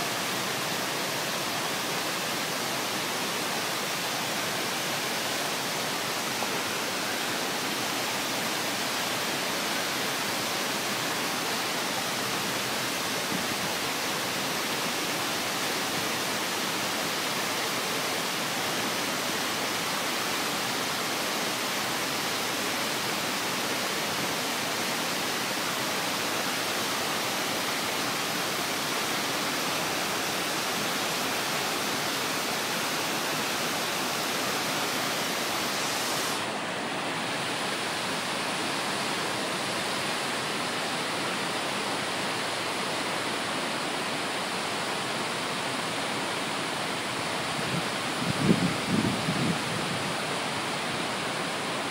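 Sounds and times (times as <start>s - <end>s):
waterfall rushing onto rocks: 0.0s - 51.9s.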